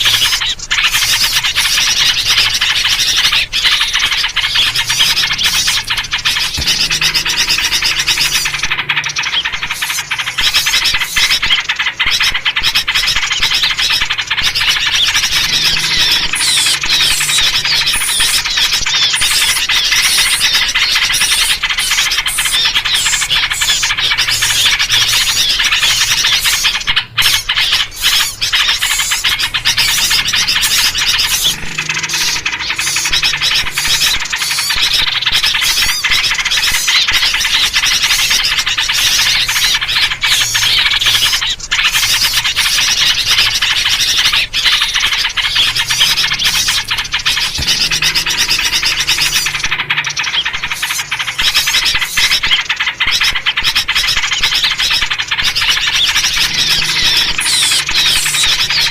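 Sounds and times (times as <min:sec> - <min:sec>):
bulbul calls: 0:00.0 - 0:58.9
small birds chattering: 0:00.0 - 0:58.9.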